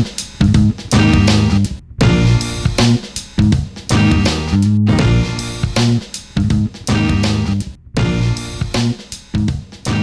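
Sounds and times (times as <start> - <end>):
guitar and drums music: 0.0 - 10.0.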